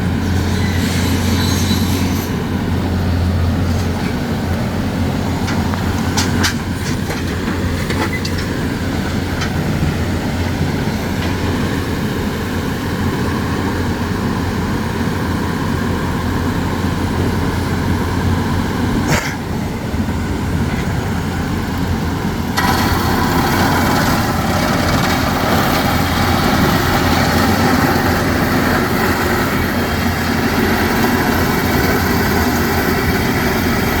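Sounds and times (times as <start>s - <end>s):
hydraulic machinery running: 0.0s - 34.0s.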